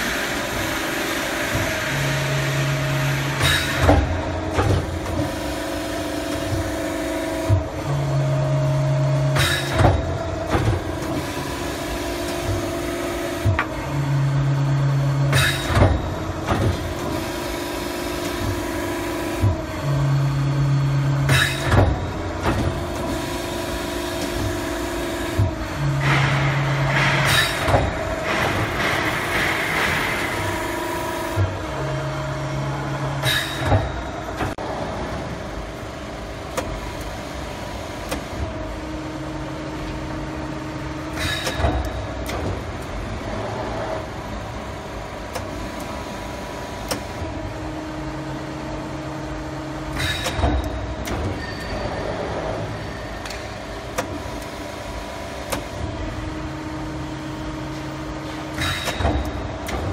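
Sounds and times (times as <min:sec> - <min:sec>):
hydraulic unit humming: 0:00.0 - 0:59.9.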